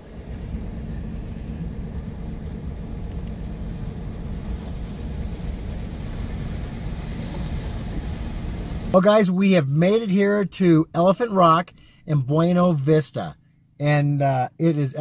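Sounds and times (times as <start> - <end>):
low hum: 0.0 - 13.8
diesel truck engine rumble: 0.0 - 15.0.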